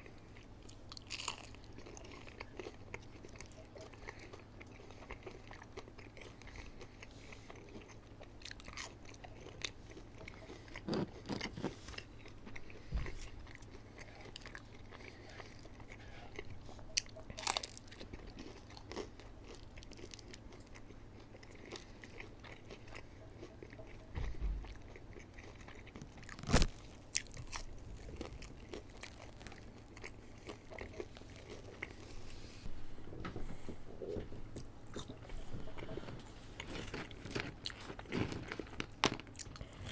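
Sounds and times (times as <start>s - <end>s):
person chewing and biting food: 0.0s - 32.4s, 34.0s - 39.9s.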